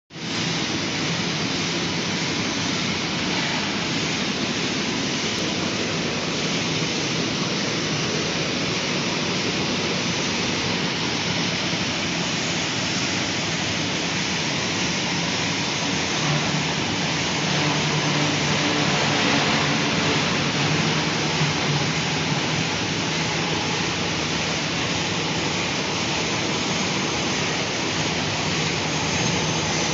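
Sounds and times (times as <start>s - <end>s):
packing machine running: 0.2s - 29.9s.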